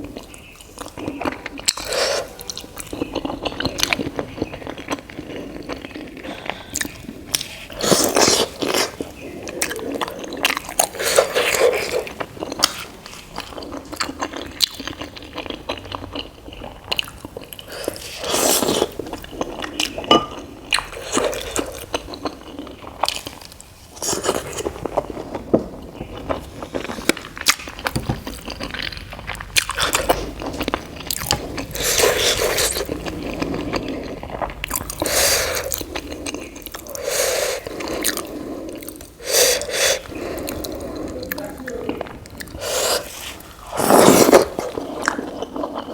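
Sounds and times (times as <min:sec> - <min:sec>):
chewing and biting food: 0:00.0 - 0:45.9.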